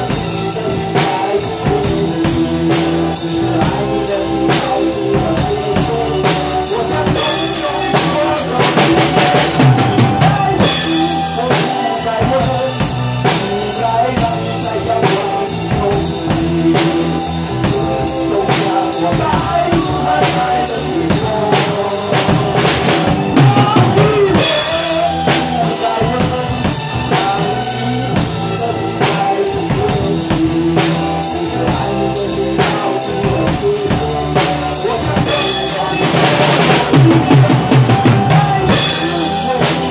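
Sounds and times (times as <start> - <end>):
drum kit playing: 0.0 - 39.9
pop-rock backing music: 0.0 - 39.9.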